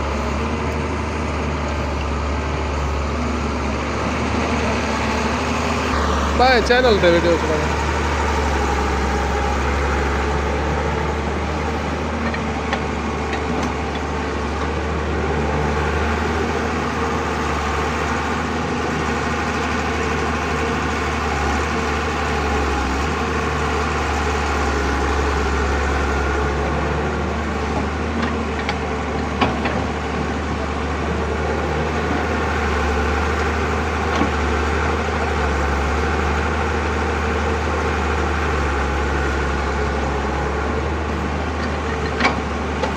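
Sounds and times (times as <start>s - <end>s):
heavy machinery engines droning: 0.0s - 42.9s.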